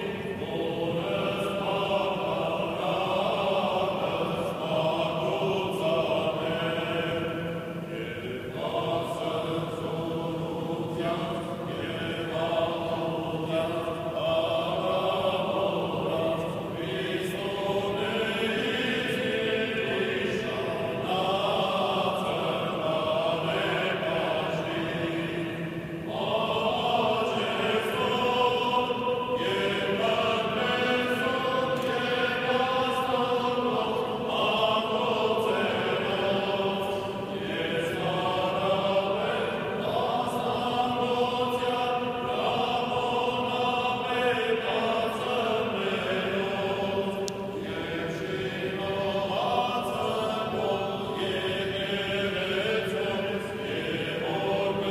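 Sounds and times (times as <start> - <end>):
clergy chanting: 0.0 - 54.9.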